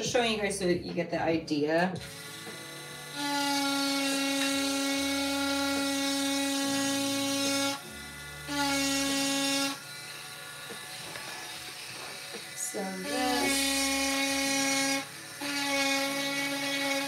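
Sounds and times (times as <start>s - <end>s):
rotary tool high whine: 2.0s - 17.0s.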